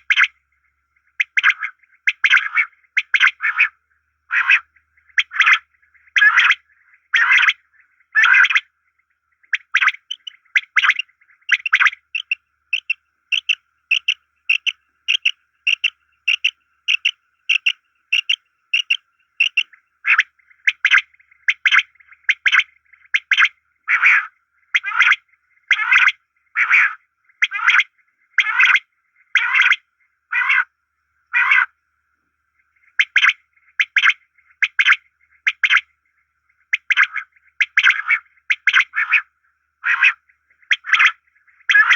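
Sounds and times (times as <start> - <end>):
quail calling: 0.0 - 0.4, 1.0 - 8.7, 9.4 - 30.7, 31.3 - 31.7, 32.8 - 35.9, 36.6 - 41.9.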